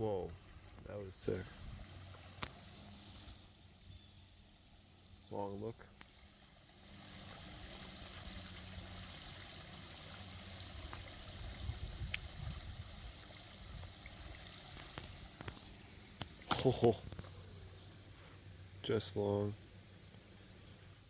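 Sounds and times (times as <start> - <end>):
creek trickling over rocks: 0.0 - 21.0.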